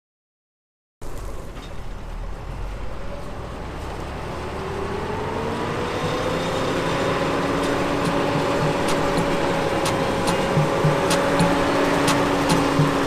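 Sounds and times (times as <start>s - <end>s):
vehicle engine rising in pitch: 1.2s - 13.0s.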